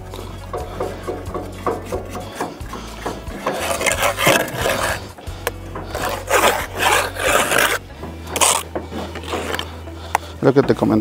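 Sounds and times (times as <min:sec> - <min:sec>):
background music: 0:00.0 - 0:11.0
trowel and block scraping mortar: 0:00.6 - 0:10.3.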